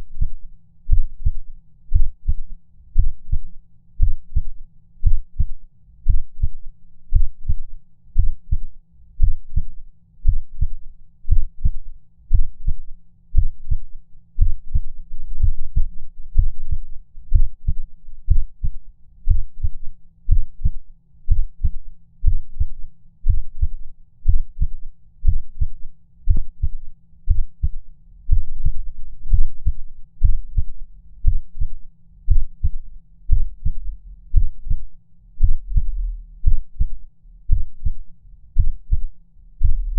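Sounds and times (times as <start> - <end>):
heartbeat thuds: 0.0 - 7.6, 8.2 - 39.9.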